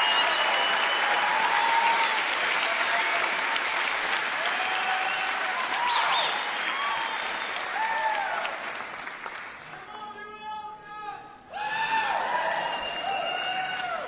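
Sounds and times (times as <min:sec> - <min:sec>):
audience applauding and cheering: 0:00.0 - 0:10.1, 0:11.5 - 0:14.0.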